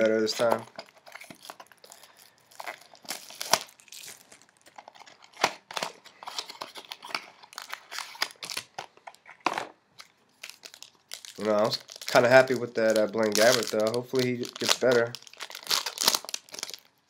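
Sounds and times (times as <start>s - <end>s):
card packs crinkling: 0.0s - 9.2s, 10.0s - 17.0s.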